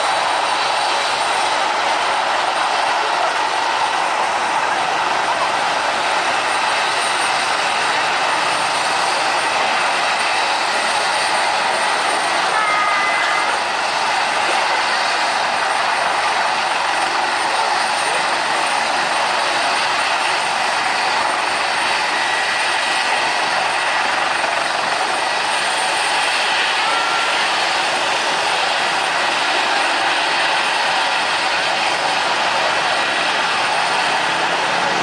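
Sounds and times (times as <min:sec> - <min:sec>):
jet engines rushing with high whine: 0:00.0 - 0:35.0.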